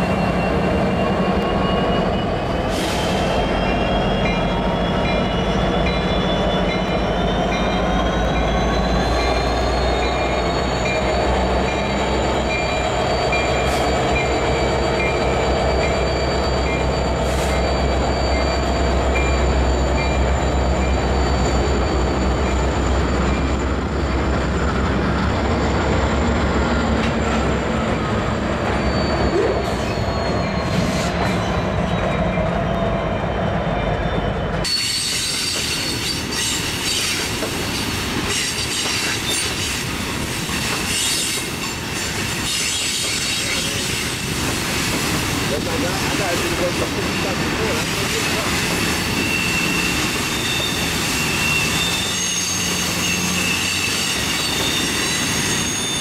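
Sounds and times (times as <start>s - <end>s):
wheel flange squeal: 0.0s - 24.4s, 25.4s - 37.4s, 40.6s - 44.3s, 45.6s - 56.0s.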